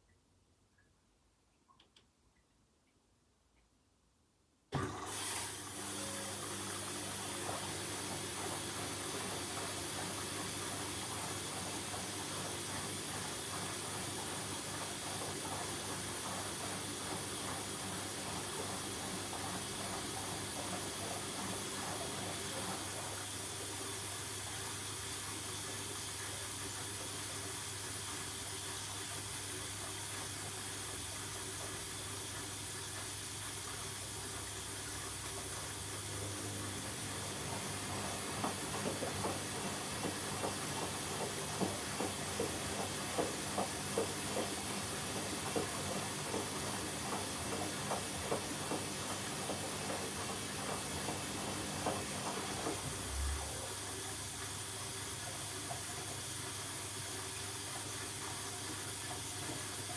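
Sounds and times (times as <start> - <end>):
water hissing into washing machine: 4.8 - 59.9.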